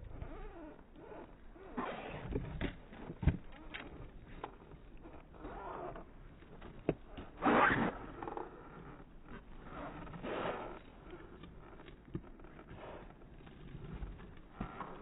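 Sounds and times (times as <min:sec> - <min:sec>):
skateboard wheels rolling on pavement: 0:00.0 - 0:15.0
skateboard scraping rush: 0:01.2 - 0:15.0.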